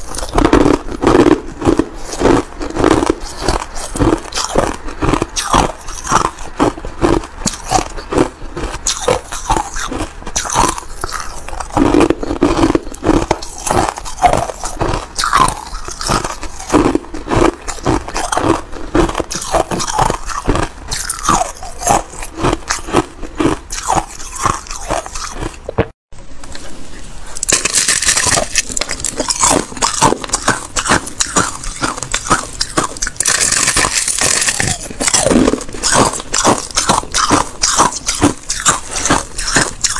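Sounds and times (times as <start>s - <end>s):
ice being chewed: 0.0s - 25.9s, 27.3s - 39.9s.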